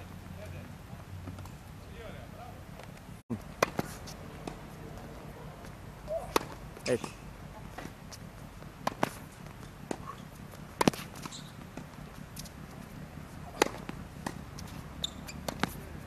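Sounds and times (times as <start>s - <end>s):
tennis balls struck by rackets: 1.0s - 1.8s, 2.8s - 16.0s
tennis balls bouncing on hard court: 2.8s - 16.0s.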